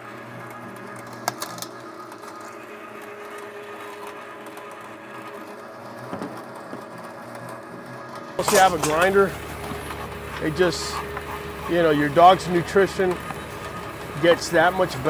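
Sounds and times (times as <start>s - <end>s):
electric meat grinder running: 0.0s - 15.0s.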